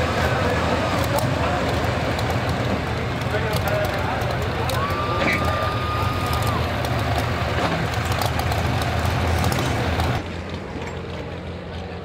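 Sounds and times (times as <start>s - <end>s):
tractor diesel engine running: 0.0s - 12.0s
truck engine idling: 0.0s - 12.0s.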